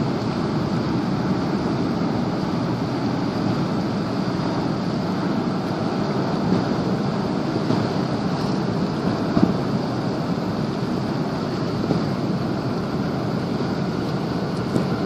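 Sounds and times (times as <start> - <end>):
boat engine rumbling: 0.0 - 15.0
water washing along hull: 0.0 - 15.0.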